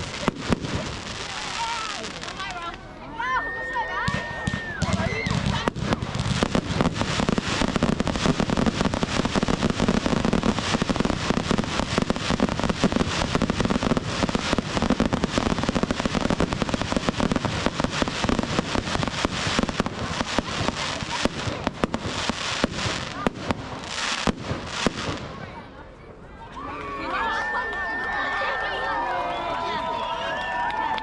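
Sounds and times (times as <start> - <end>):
firework bangs and crackles: 0.0 - 25.8.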